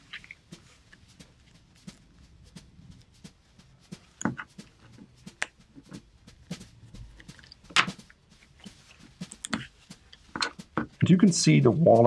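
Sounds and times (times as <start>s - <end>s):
leather being handled: 0.0s - 12.0s.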